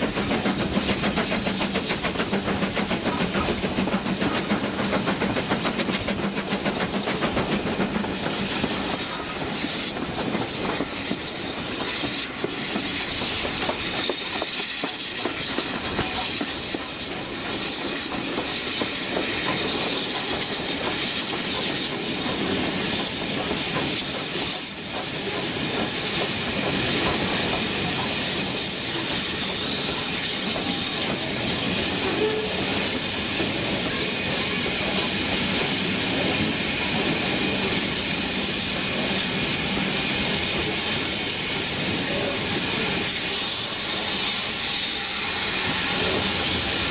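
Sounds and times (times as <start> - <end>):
steam train rumble and hiss: 0.0 - 46.9.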